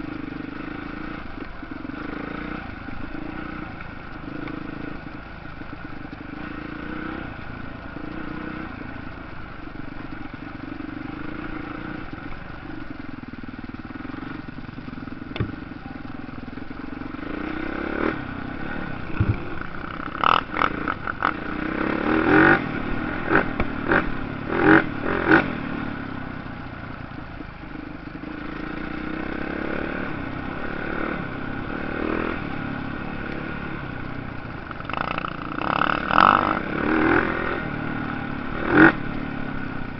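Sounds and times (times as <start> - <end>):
dirt bike engines running: 0.0 - 39.9.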